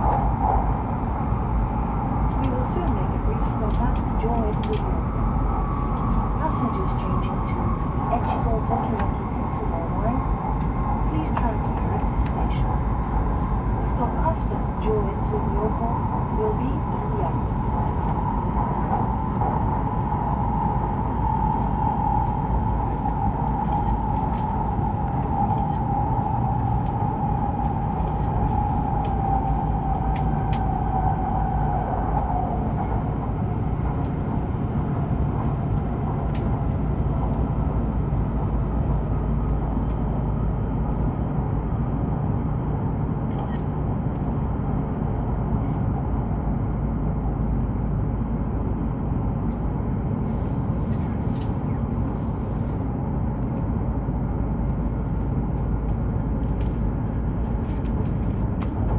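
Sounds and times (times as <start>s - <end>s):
train rumble and whine: 0.0s - 58.9s.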